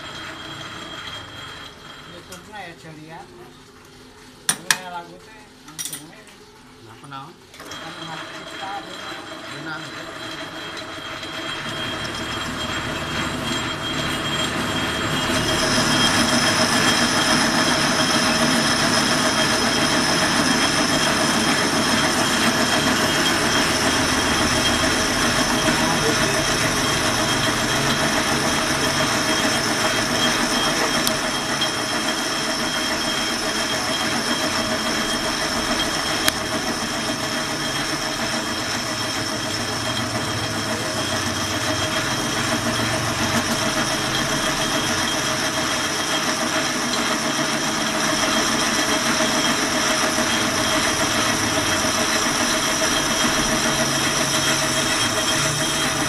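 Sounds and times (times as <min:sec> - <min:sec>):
metal lathe machining steel: 0:00.0 - 0:02.8, 0:07.6 - 0:56.0
high screech of tool on steel: 0:11.0 - 0:56.0.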